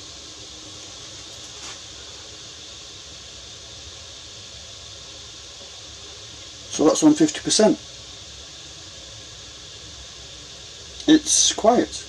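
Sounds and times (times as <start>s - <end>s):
roof vent fan air rush: 0.0s - 12.0s.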